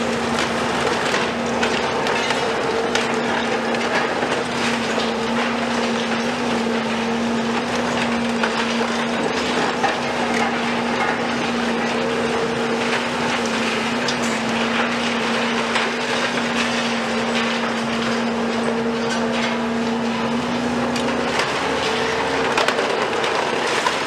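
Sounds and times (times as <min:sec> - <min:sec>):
concrete rubble clattering: 0:00.0 - 0:24.0
excavator engines and hydraulics humming: 0:00.0 - 0:24.0.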